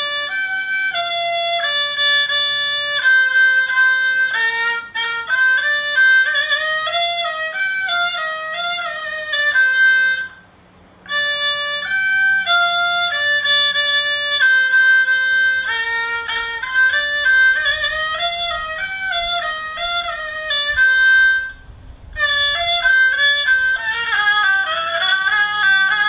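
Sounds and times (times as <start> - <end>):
bowed fiddle melody: 0.0 - 26.0.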